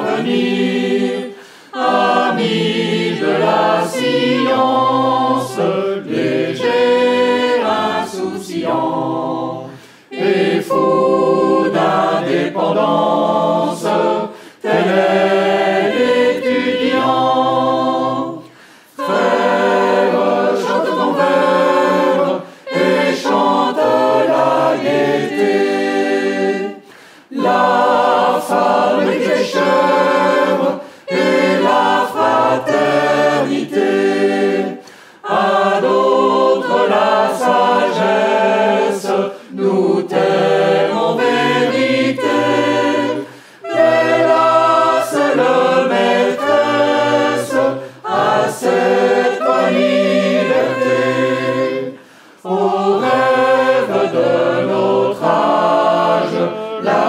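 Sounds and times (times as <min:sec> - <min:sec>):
group of people singing: 0:00.0 - 0:57.0.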